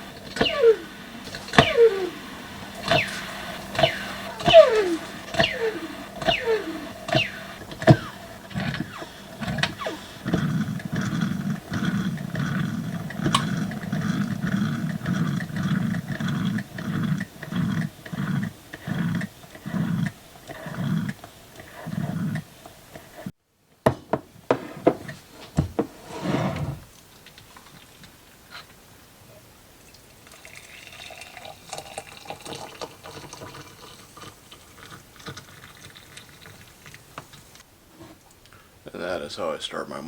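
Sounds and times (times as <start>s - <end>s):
percolator coffee pot gurgling: 0.0s - 23.3s, 26.9s - 37.6s.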